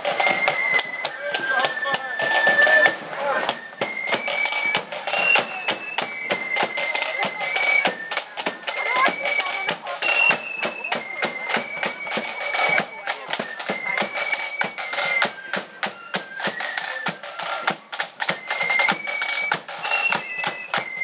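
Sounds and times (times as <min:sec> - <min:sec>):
flutes playing a melody: 0:00.0 - 0:21.0
side drum strokes: 0:00.0 - 0:21.0.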